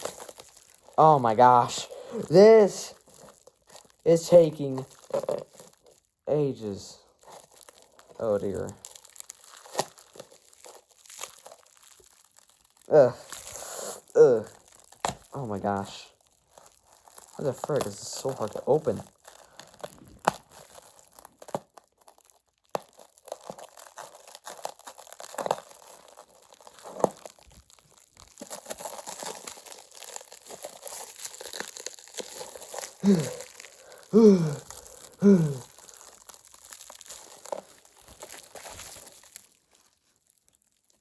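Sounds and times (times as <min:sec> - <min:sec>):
plastic wrap crinkling and tearing: 0:00.0 - 0:41.0.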